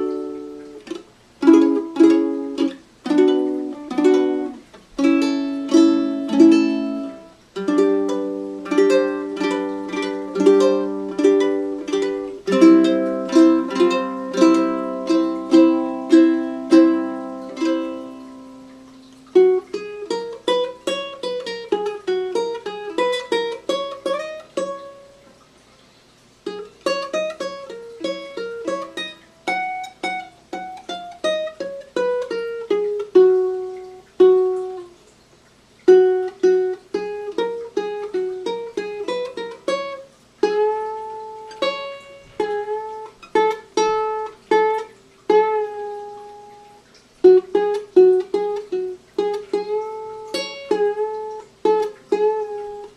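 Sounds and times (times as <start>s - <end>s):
ukulele playing: 0.0s - 25.5s, 26.4s - 35.2s, 35.8s - 52.9s.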